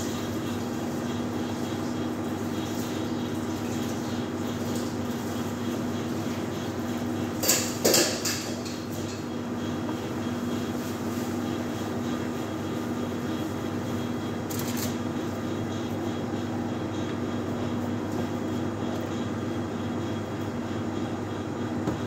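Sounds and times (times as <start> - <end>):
mechanical drone with low hum: 0.0 - 22.0.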